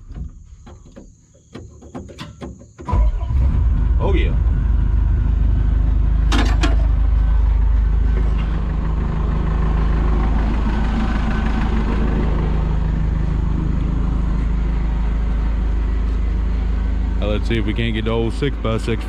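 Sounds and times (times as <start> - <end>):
diesel engine idling: 2.9 - 19.0.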